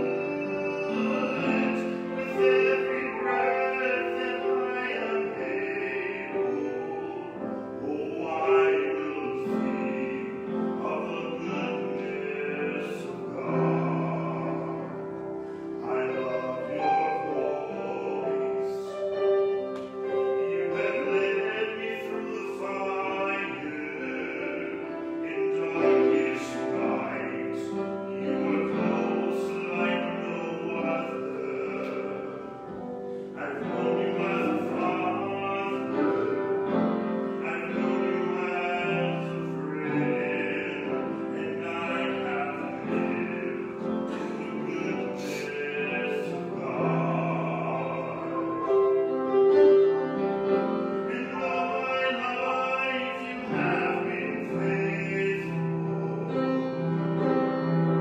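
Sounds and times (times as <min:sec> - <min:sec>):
man singing classical style: 0:00.0 - 0:58.0
piano accompaniment: 0:00.0 - 0:58.0.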